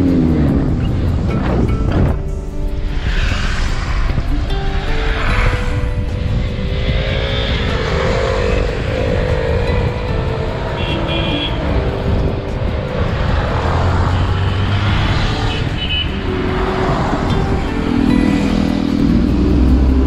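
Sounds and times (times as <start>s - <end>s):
car road and engine noise: 0.0s - 20.0s
motorcycles running: 0.0s - 20.0s.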